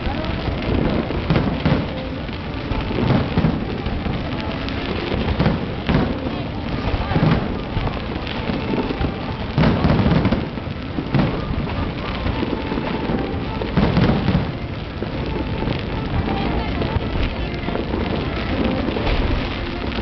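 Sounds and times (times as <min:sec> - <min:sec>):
crackle of sparks: 0:00.0 - 0:20.0
fireworks booming: 0:00.0 - 0:20.0.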